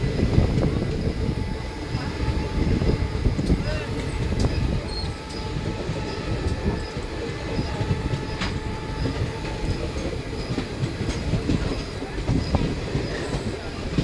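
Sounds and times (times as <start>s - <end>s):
train rumbling on track: 0.0s - 14.0s.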